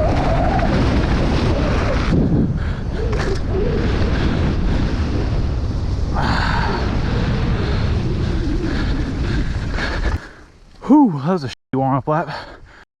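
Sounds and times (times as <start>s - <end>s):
wind buffeting microphone: 0.0s - 10.6s
bike rumbling and rattling: 0.0s - 10.8s.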